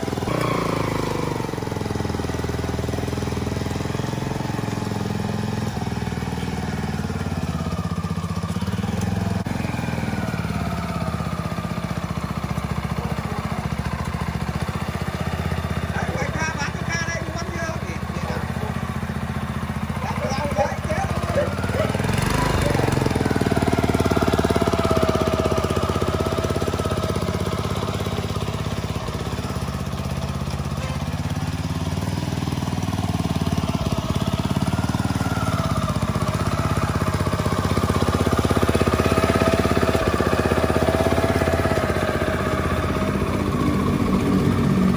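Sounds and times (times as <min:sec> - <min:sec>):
small petrol engine running: 0:00.0 - 0:44.9.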